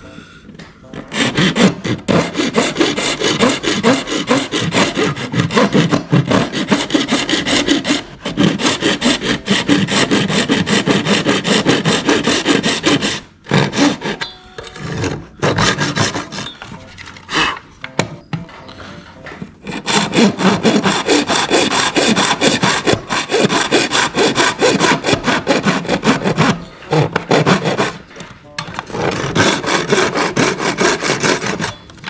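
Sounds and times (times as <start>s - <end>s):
hand tool scraping plastic: 0.0s - 32.0s.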